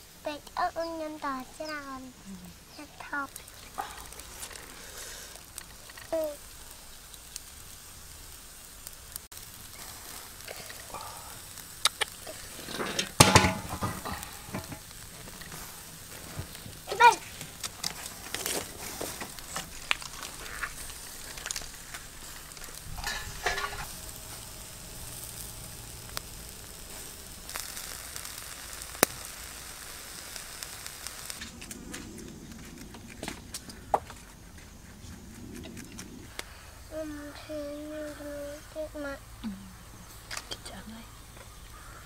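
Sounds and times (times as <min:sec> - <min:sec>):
food sizzling in a hot pan: 0:00.0 - 0:31.5, 0:36.3 - 0:42.0.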